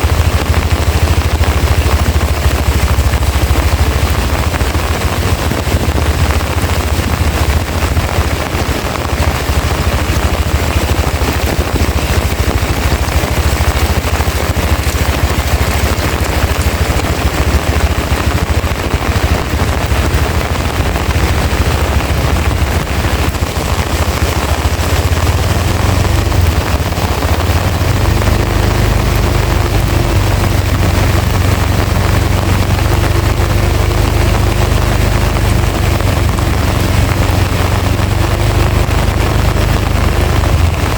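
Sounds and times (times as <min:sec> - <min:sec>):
heavy rain pouring: 0:00.0 - 0:40.9
wind rumbling on microphone: 0:00.0 - 0:40.9.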